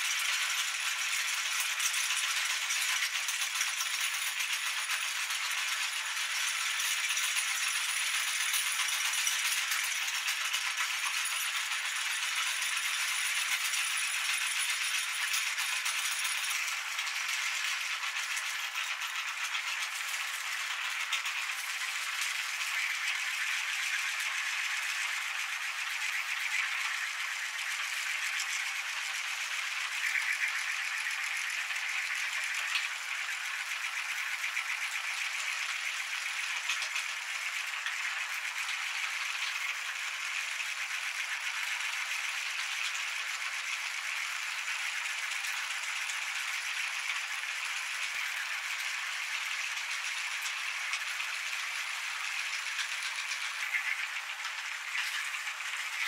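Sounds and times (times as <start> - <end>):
meat grinder rattling: 0.0 - 56.0.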